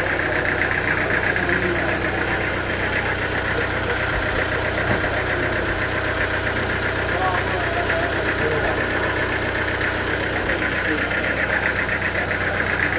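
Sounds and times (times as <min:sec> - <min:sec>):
rapid even rattle: 0:00.0 - 0:12.9
sawmill engine hum: 0:00.0 - 0:12.9.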